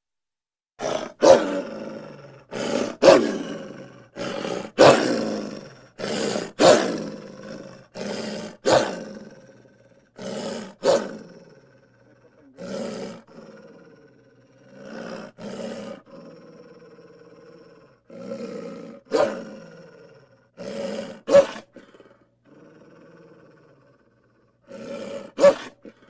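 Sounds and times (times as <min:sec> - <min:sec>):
wolf snarling and growling: 0:00.8 - 0:26.0.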